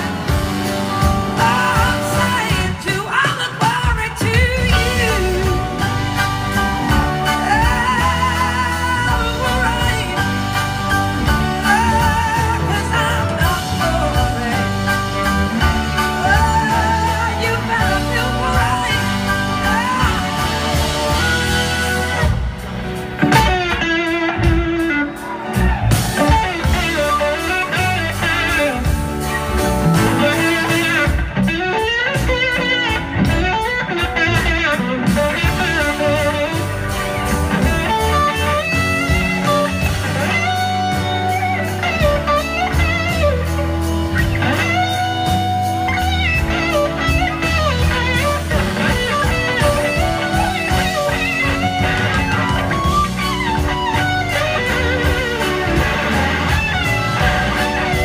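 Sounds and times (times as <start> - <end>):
blues-rock band playing: 0.0 - 58.0
electric guitar bending notes: 4.3 - 58.0.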